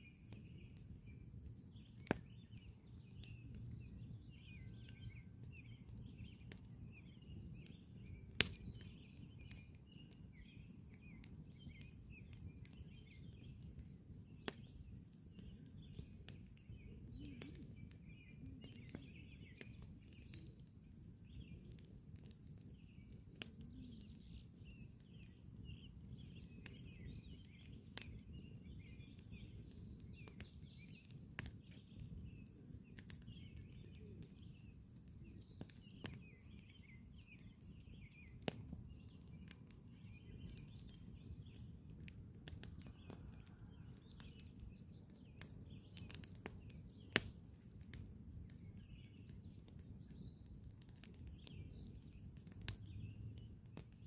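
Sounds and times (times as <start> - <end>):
birds chirping: 0.0 - 54.0
campfire crackling and popping: 0.0 - 54.0.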